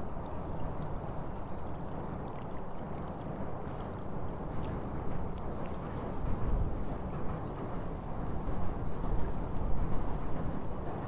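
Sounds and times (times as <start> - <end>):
low river rumble: 0.0 - 11.0.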